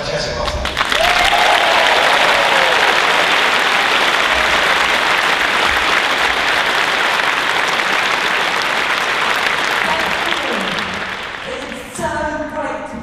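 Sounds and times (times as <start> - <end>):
large audience applauding: 0.4 - 12.0.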